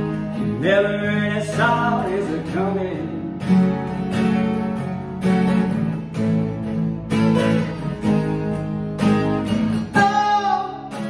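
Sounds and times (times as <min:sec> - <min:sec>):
acoustic guitars strumming chords: 0:00.0 - 0:11.0.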